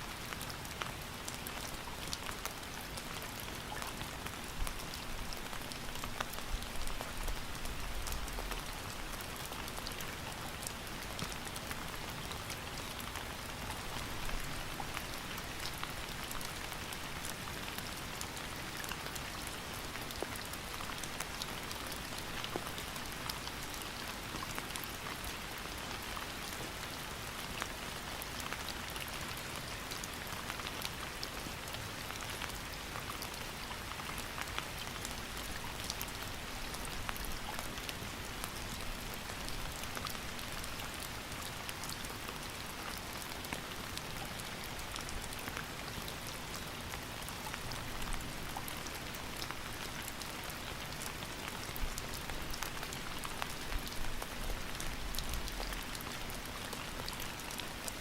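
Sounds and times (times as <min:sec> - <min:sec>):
rain drops pattering on surface: 0:00.0 - 0:58.0.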